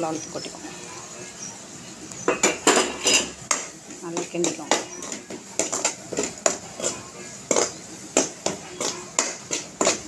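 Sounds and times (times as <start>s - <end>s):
metal spatula scraping a pan: 0.1s - 10.0s.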